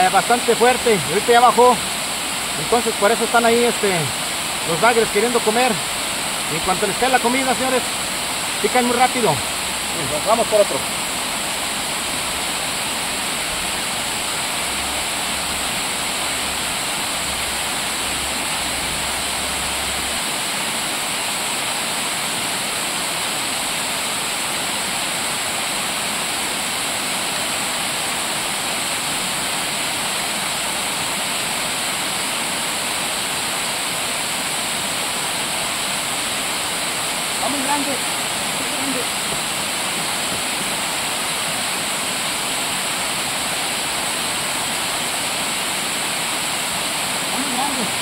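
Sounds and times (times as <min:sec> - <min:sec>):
water rushing down cascade: 0:00.0 - 0:48.0.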